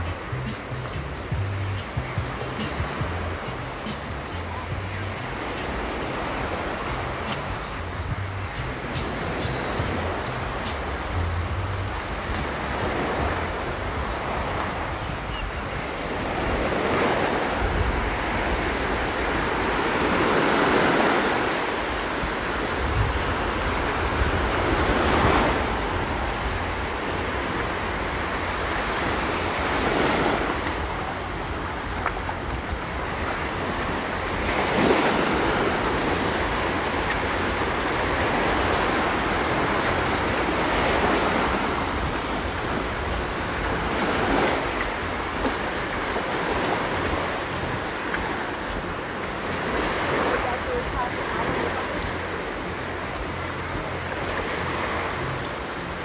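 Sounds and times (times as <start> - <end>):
waves washing on beach: 0.0 - 56.0
wind on microphone: 0.0 - 56.0.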